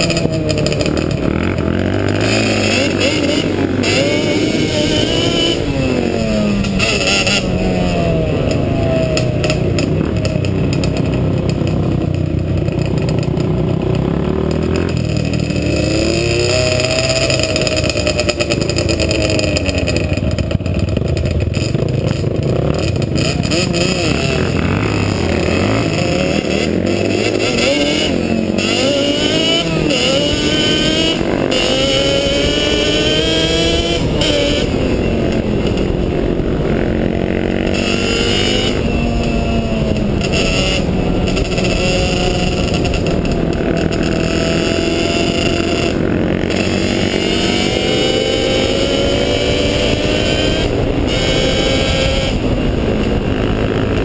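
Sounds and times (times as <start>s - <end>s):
quad engine revving: 0.0s - 54.0s.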